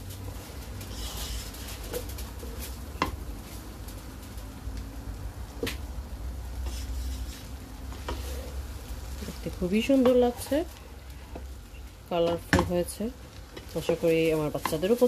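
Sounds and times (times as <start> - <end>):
spatula stirring rice in pot: 0.0 - 4.4, 6.3 - 15.0.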